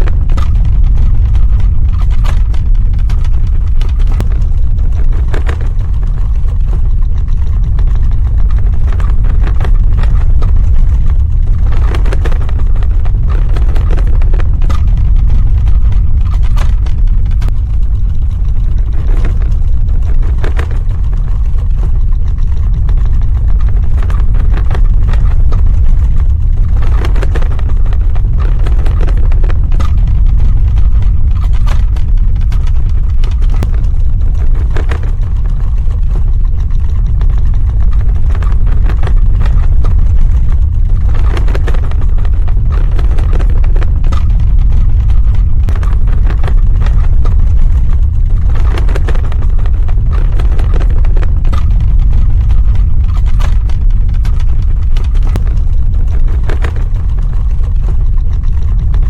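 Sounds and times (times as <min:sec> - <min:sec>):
crackling and rattling: 0:00.0 - 0:59.0
deep rumble: 0:00.0 - 0:59.0.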